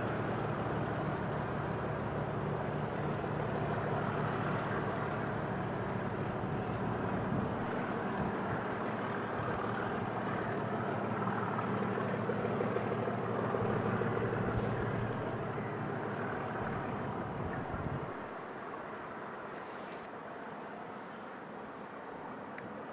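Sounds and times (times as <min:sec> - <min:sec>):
locomotive diesel engine drone: 0:00.0 - 0:22.9.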